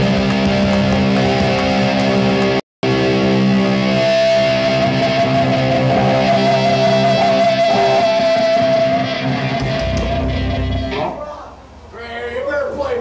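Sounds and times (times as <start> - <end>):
distorted electric guitars chord: 0.0 - 11.2
high guitar note held: 0.0 - 11.3.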